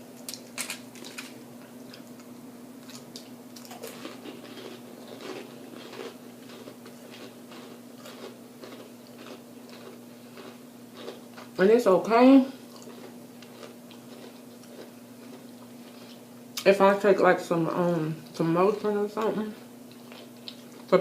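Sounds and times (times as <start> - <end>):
chewing crunchy food: 0.2 - 16.7, 19.2 - 21.0.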